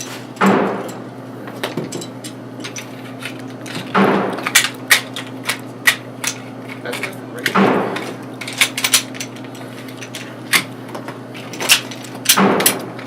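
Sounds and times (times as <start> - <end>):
gun parts clicking: 1.6 - 12.8.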